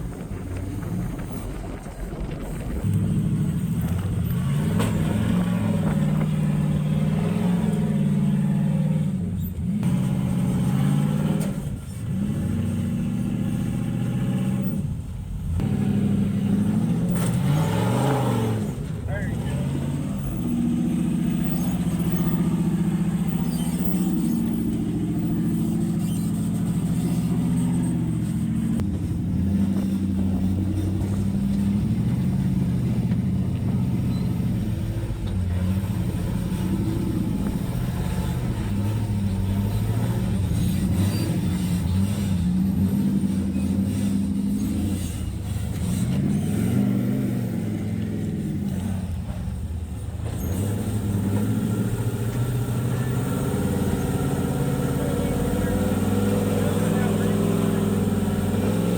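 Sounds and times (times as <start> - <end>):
off-road vehicle engine revving: 0.0 - 58.9.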